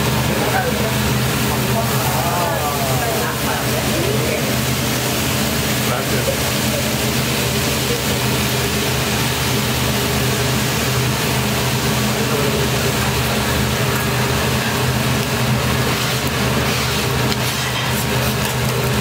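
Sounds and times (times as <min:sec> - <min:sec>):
rice sizzling on griddle: 0:00.0 - 0:19.0.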